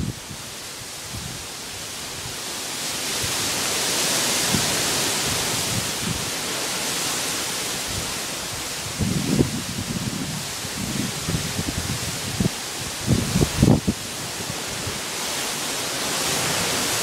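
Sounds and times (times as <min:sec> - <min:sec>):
wind gusting through palm trees: 0:00.0 - 0:17.0.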